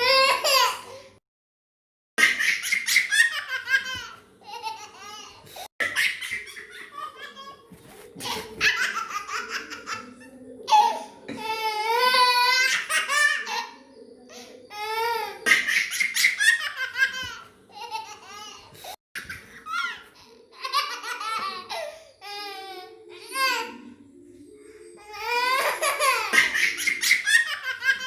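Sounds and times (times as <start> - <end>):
baby laughing: 0.0 - 1.1, 2.2 - 23.9, 25.0 - 28.0.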